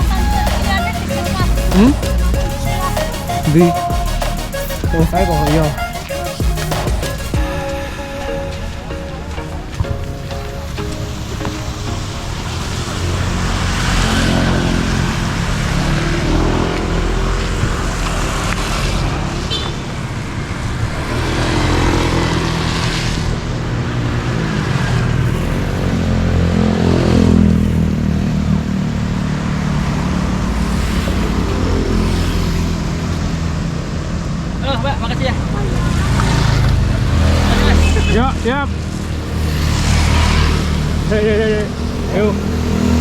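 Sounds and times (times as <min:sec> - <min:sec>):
vehicle engine revving: 0:00.0 - 0:07.5, 0:11.4 - 0:43.0
wind or road noise: 0:00.0 - 0:43.0.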